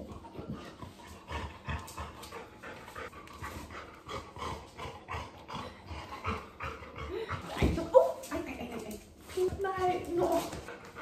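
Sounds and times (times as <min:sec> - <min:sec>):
dog panting: 0:00.0 - 0:07.7, 0:08.6 - 0:11.0.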